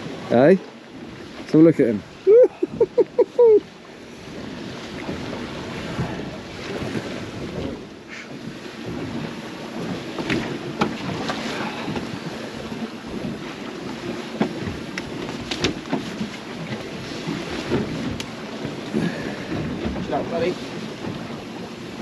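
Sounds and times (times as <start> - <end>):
knocks and clicks on boat: 0.0 - 22.0
water lapping around boat: 0.0 - 22.0
wind buffeting microphone: 0.0 - 22.0.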